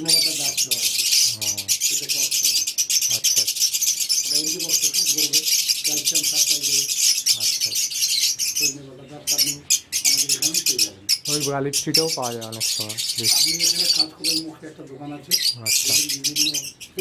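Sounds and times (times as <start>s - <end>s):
lovebirds chattering: 0.0s - 17.0s.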